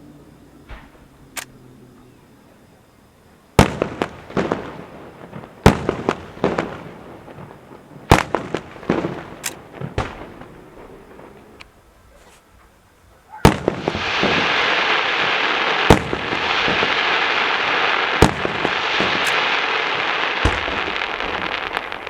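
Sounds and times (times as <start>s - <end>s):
fireworks bangs and crackling: 0.6s - 1.2s, 3.5s - 12.8s, 13.4s - 22.0s.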